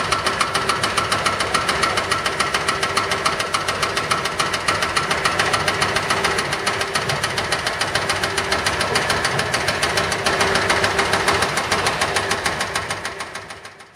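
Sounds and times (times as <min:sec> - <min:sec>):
diesel truck engine running: 0:00.0 - 0:13.9
fast knocking clatter: 0:00.0 - 0:13.9.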